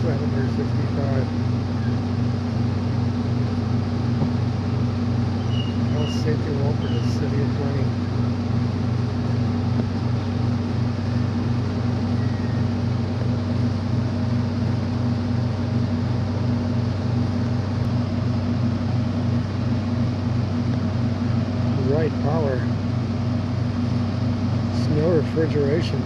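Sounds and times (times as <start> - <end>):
heavy machinery droning: 0.0 - 26.0.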